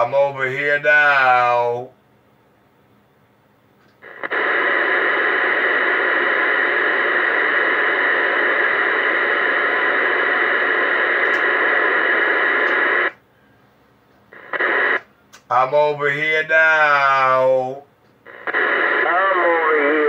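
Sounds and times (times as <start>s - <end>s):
radio static hiss: 0.0s - 2.0s, 4.0s - 13.2s, 14.3s - 20.0s.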